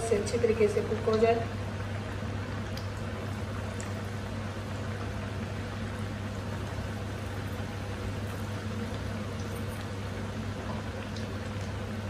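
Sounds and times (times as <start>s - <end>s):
chicken deep-frying in oil: 0.0s - 12.0s
steady low hum: 0.0s - 12.0s.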